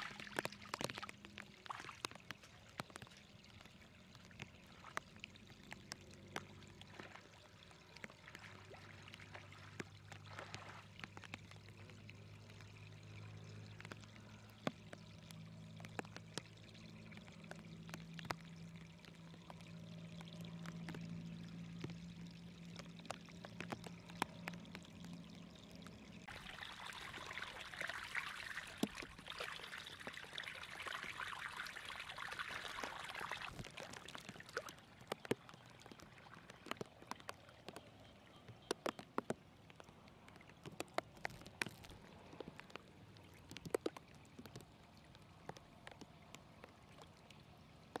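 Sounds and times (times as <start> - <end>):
small clicks: 0.0 - 26.4, 33.5 - 48.0
low steady hum: 0.0 - 38.9
water pouring through a channel: 0.0 - 48.0.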